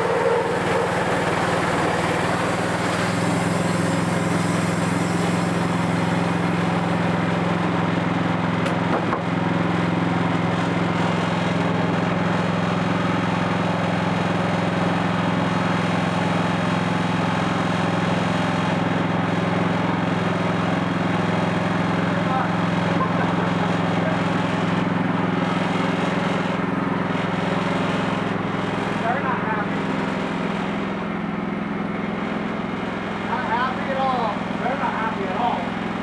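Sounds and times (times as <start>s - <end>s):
sawmill engine running: 0.0s - 36.0s.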